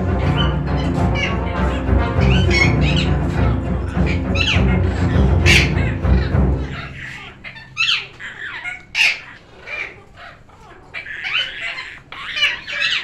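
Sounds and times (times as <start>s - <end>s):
parrots calling: 0.0s - 13.0s.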